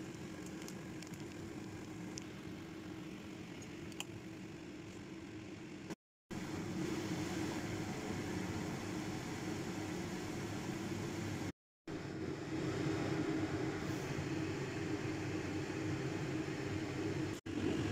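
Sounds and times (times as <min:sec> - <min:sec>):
mechanical hum with hiss: 0:00.0 - 0:17.9.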